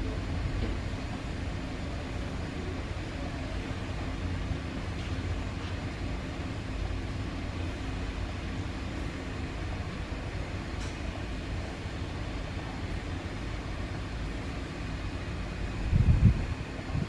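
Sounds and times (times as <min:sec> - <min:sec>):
electric train humming: 0:00.0 - 0:17.0
faint constant tone: 0:00.0 - 0:17.0.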